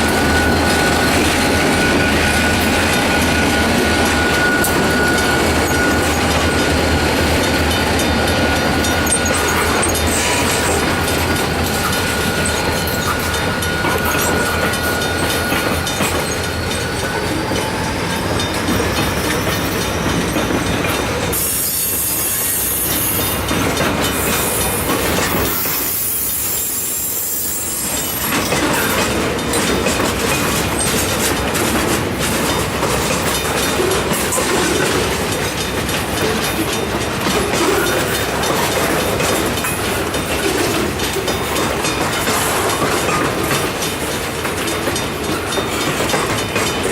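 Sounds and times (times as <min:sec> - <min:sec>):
freight train cars rolling: 0:00.0 - 0:46.9
train wheels clicking on rail joints: 0:00.0 - 0:46.9.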